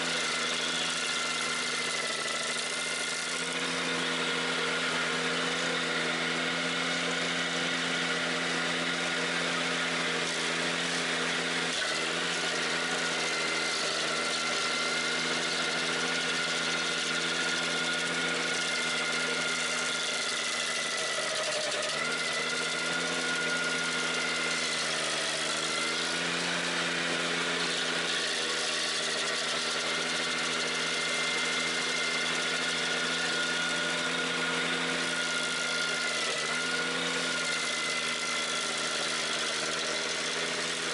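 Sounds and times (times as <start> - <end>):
stump grinder grinding wood: 0.0 - 40.9
tractor engine running: 0.0 - 40.9.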